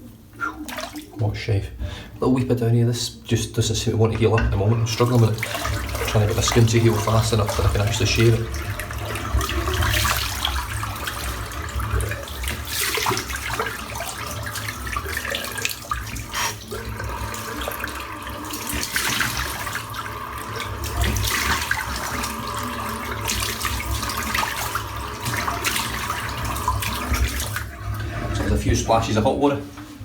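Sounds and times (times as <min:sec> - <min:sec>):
tap running into sink: 0:04.1 - 0:28.5.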